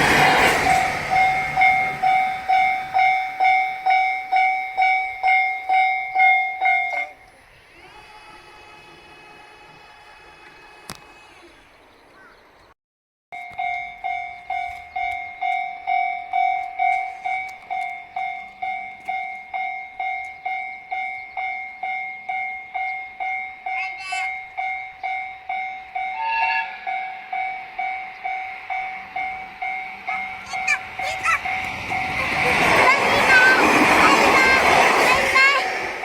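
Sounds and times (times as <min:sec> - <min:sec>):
level crossing alarm dinging: 0:00.0 - 0:07.3, 0:13.4 - 0:35.6.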